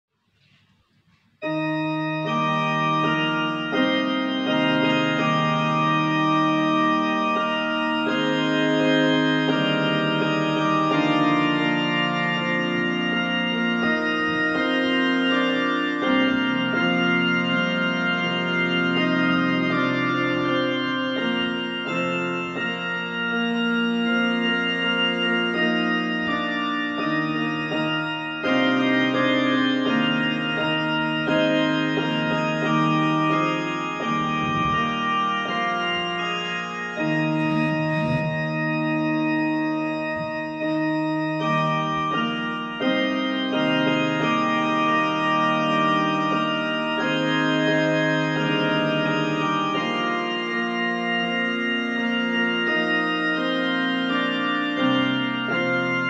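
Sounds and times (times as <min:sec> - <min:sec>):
electronic keyboard organ hymn: 0:00.4 - 0:56.0.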